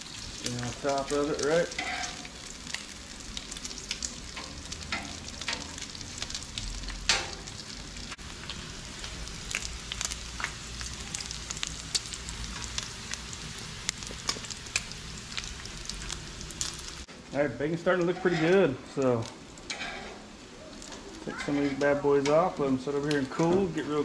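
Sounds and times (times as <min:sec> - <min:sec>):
crackles of spattering fat: 0:00.0 - 0:17.1, 0:17.7 - 0:24.0
bacon sizzling on a griddle: 0:00.0 - 0:24.0.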